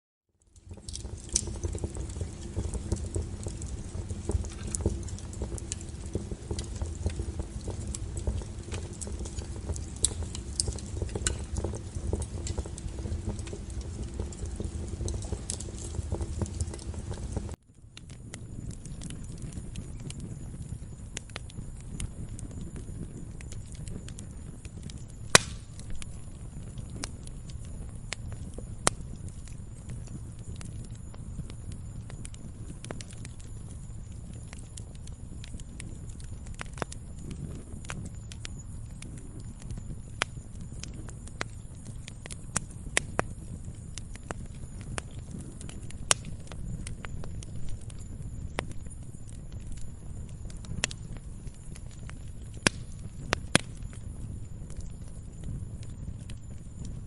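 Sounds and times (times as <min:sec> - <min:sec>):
low rumble of flames: 0:00.3 - 0:57.0
sharp snaps of fire: 0:00.4 - 0:57.0
wood crackling and popping: 0:00.4 - 0:57.0.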